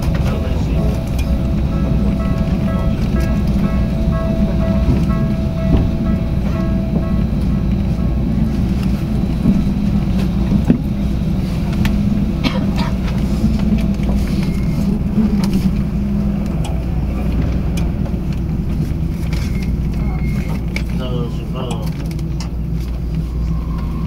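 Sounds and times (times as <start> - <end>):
continuous hum: 0.0 - 24.0
light-rail car rumbling: 0.0 - 24.0
wheels clicking on track: 0.0 - 24.0.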